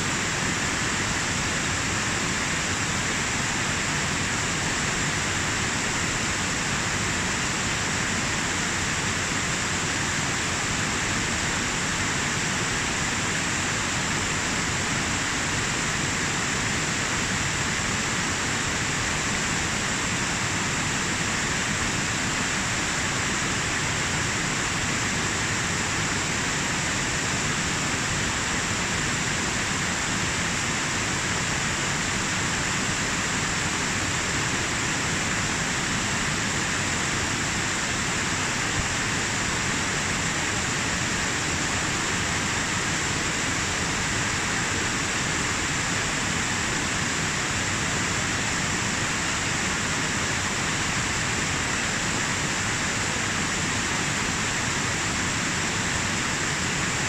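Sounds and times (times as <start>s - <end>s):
waterfall rushing over boulders: 0.0s - 57.0s.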